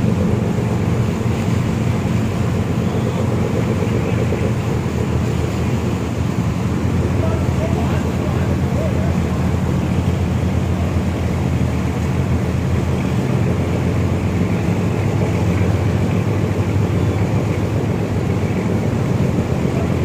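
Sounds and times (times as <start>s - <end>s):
boat engine rumble: 0.0s - 20.0s
water rushing along hulls: 0.0s - 20.0s.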